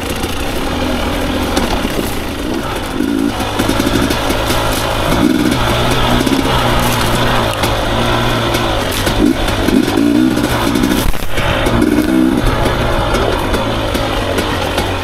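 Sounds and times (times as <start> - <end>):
clicks and knocks from bike: 0.0 - 15.0
motorcycle engine revving: 0.0 - 15.0.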